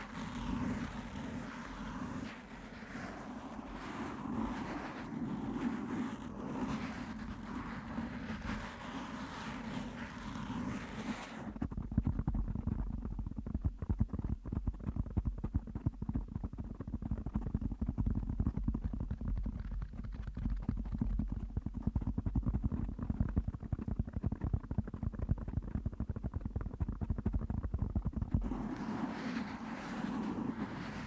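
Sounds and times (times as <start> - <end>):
fingers scratching on microphone: 3.8 - 31.0.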